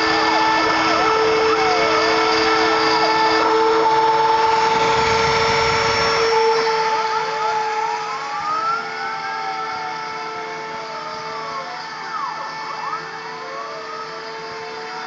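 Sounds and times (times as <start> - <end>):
router spindle whining: 0.0 - 15.0
stepper motors whining glides: 0.0 - 15.0.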